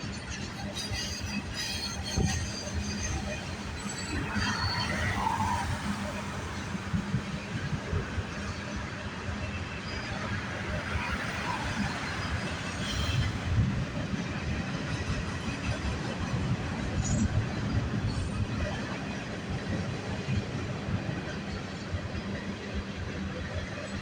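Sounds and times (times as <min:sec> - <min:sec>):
freight train cars rumbling: 0:00.0 - 0:24.0.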